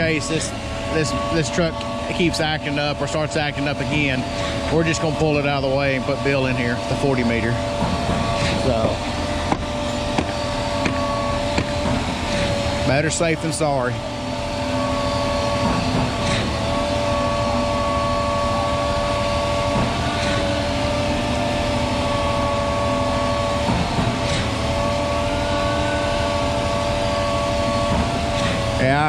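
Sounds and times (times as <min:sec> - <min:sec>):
concrete pump whine and rumble: 0:00.0 - 0:29.0.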